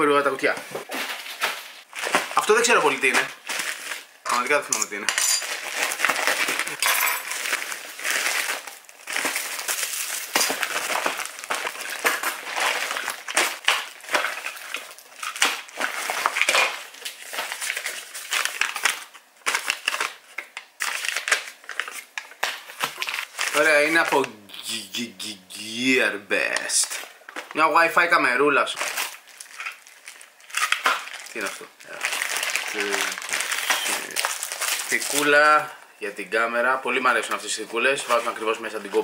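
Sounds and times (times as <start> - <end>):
plastic crinkling and rustling: 0.4 - 4.8, 5.4 - 24.3, 26.4 - 28.0, 28.6 - 35.7, 37.0 - 39.0.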